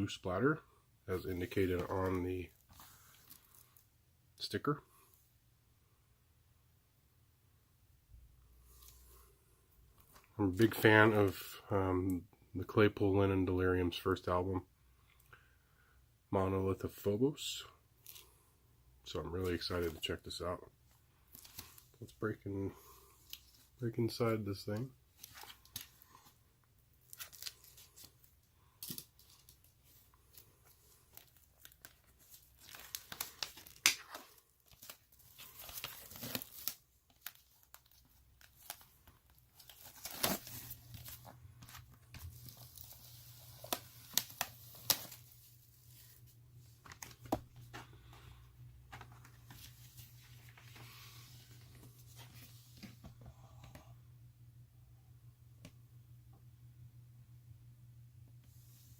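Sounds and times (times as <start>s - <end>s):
faint low hum: 0.0s - 58.9s.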